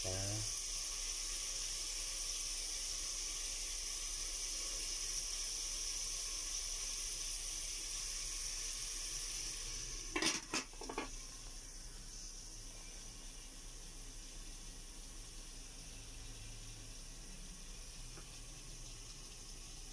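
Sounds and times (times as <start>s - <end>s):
meat sizzling in a pot: 0.0s - 19.9s.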